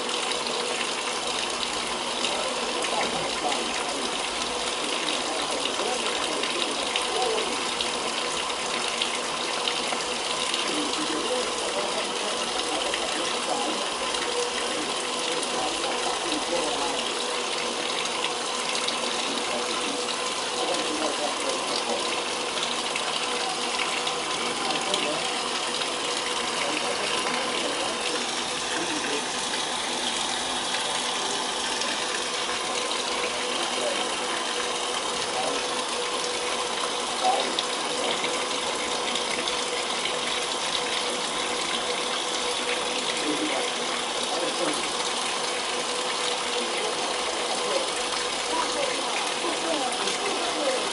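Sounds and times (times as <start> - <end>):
washing machine filling with water: 0.0 - 50.9.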